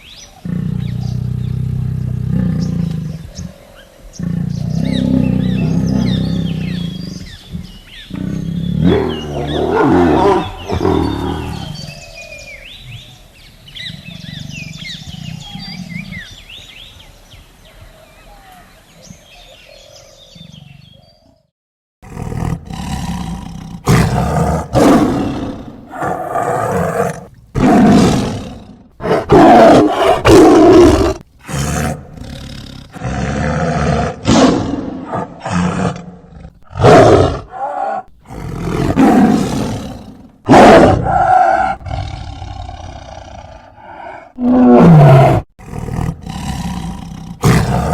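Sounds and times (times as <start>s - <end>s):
tiger growling: 0.1s - 16.9s, 22.0s - 47.9s
tiger roaring and snarling: 0.2s - 13.1s, 13.7s - 16.6s, 22.0s - 47.9s.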